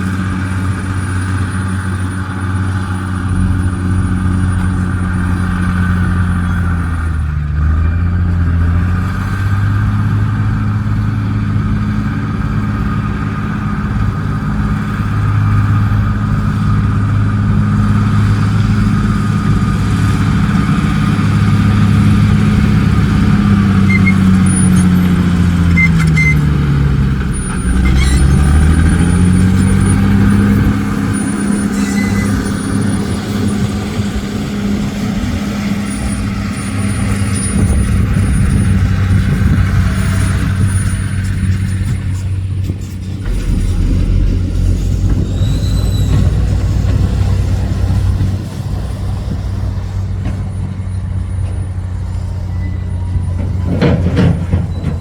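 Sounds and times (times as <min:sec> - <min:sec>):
diesel truck engine under load: 0:00.0 - 0:55.0.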